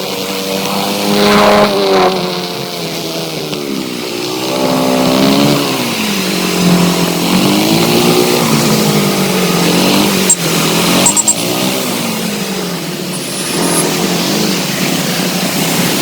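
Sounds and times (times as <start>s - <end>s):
motorcycle engine revving: 0.0s - 16.0s
wind and road noise: 0.2s - 16.0s.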